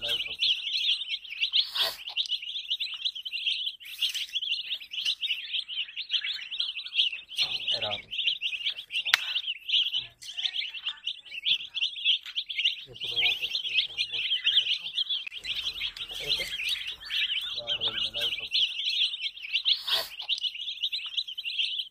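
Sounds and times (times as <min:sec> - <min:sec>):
baby chicks peeping: 0:00.0 - 0:21.9.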